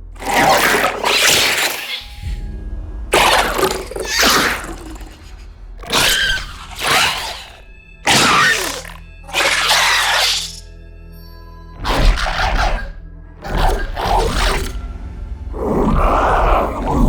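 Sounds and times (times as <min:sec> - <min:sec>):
monster growls and roars: 0:00.0 - 0:10.6, 0:11.8 - 0:14.8, 0:15.5 - 0:17.0
low music drone: 0:00.0 - 0:17.0.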